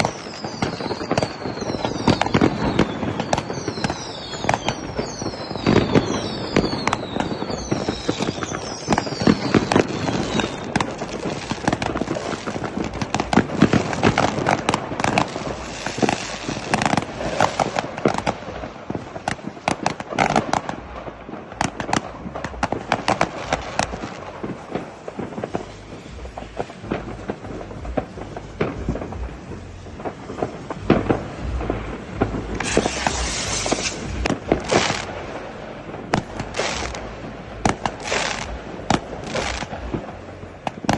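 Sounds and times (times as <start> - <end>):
whistling rockets falling in pitch: 0.0 - 35.4, 36.0 - 40.9
fireworks bursting with bangs: 0.0 - 40.9
fireworks hissing and crackling: 0.0 - 40.9.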